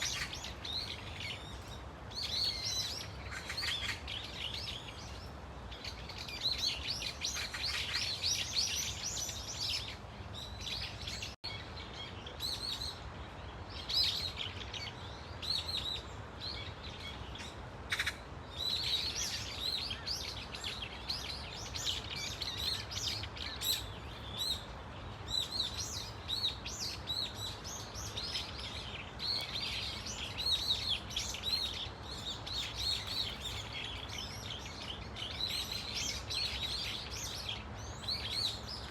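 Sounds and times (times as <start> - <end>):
birds chirping: 0.0 - 38.9
low background noise: 0.0 - 38.9.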